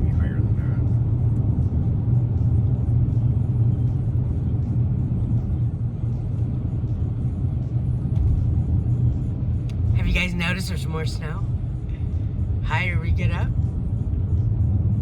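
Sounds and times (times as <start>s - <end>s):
engine and tyre rumble in car cabin: 0.0s - 15.0s.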